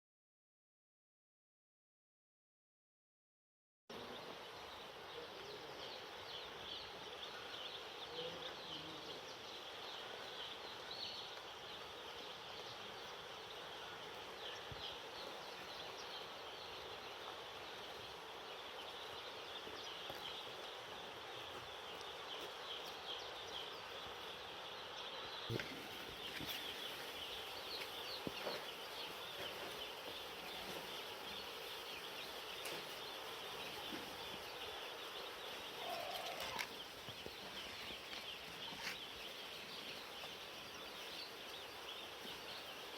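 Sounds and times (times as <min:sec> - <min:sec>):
chicks peeping: 0:04.0 - 0:42.9.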